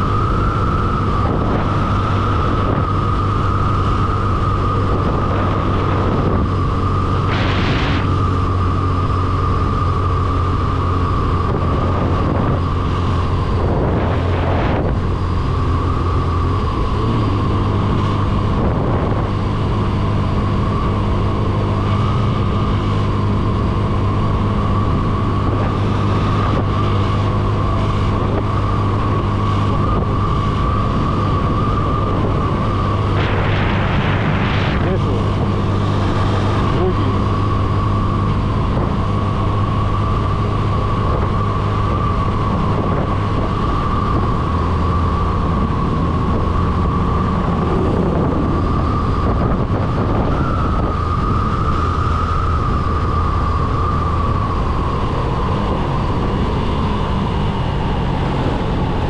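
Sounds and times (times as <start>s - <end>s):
motorcycle engine running: 0.0s - 59.0s
steady whine: 0.0s - 59.0s
wind noise over microphone: 0.0s - 59.0s.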